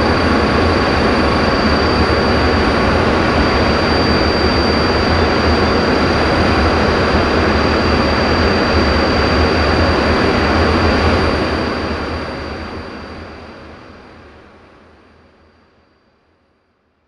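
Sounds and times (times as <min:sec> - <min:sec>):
high engine whine: 0:00.0 - 0:14.4
jet engine and air noise: 0:00.0 - 0:14.4.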